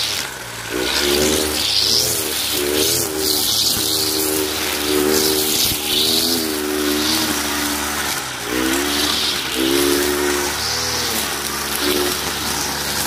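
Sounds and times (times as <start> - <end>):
brush cutter engine running: 0.0 - 13.0
cutting head hissing through grass: 0.0 - 13.0.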